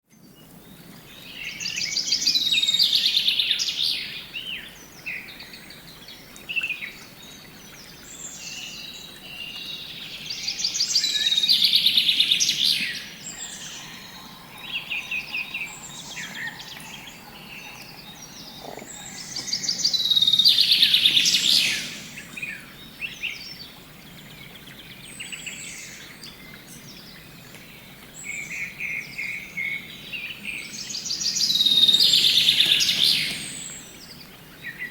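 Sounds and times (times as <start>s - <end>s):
bird singing warbling trills: 0.2s - 34.9s
soft bird chirps: 5.2s - 34.9s.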